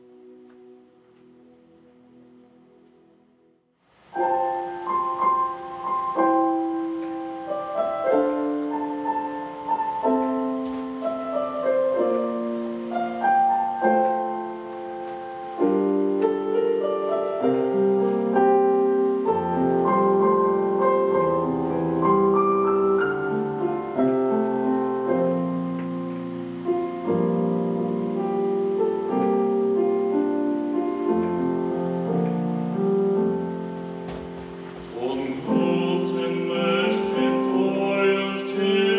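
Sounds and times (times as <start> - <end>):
piano chords: 0.0 - 38.9.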